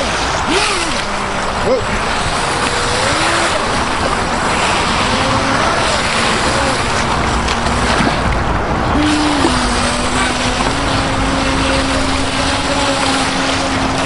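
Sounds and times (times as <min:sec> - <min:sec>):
electric motor whining: 0:00.0 - 0:14.0
loud rushing water noise: 0:00.0 - 0:14.0.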